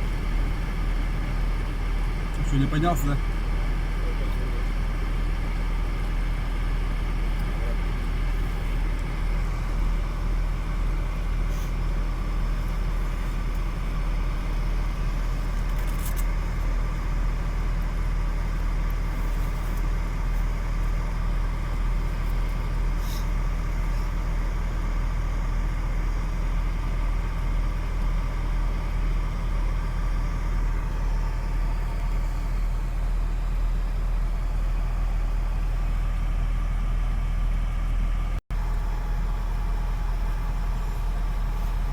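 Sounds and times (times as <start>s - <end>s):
truck engine running steadily: 0.0s - 41.9s.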